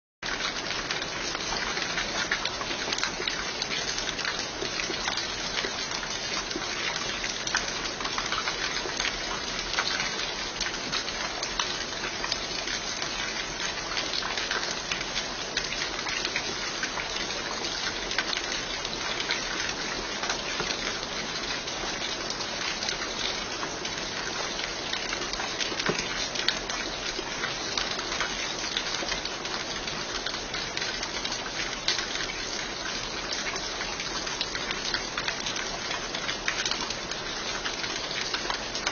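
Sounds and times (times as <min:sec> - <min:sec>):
raindrops ticking: 0:00.2 - 0:38.9.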